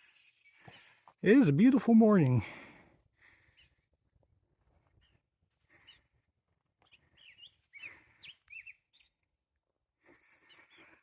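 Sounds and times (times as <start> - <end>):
songbirds chirping and whistling: 0.0 - 11.0.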